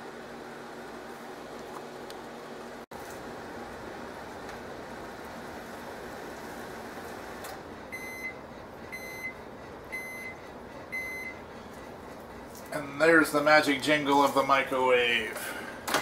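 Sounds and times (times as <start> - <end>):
microwave oven running: 0.0 - 16.0.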